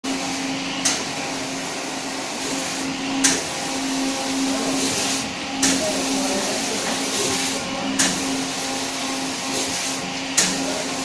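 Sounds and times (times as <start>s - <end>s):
water spray jets hissing: 0.1s - 11.0s.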